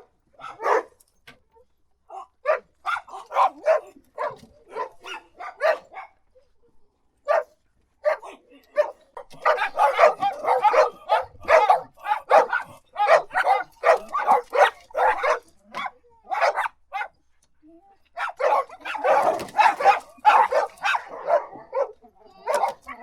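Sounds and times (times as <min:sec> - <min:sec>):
dog barking: 0:00.0 - 0:01.0, 0:02.2 - 0:06.2, 0:07.2 - 0:17.2, 0:18.2 - 0:23.0.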